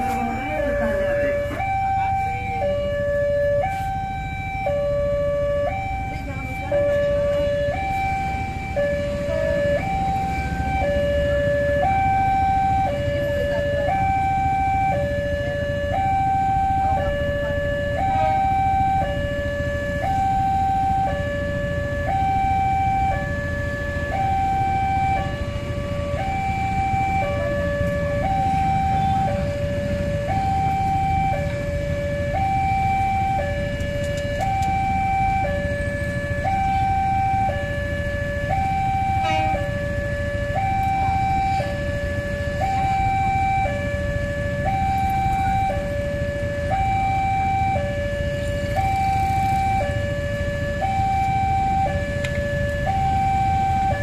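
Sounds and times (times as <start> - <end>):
two-tone siren: 0.0 - 54.0.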